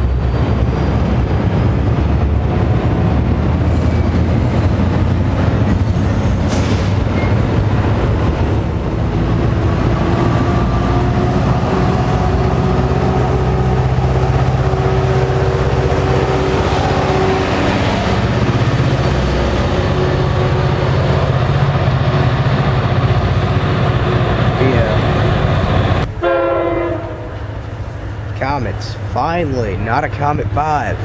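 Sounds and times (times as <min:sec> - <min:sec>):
train wheels on rails: 0:00.0 - 0:26.2
diesel locomotive engine drone: 0:00.0 - 0:31.0.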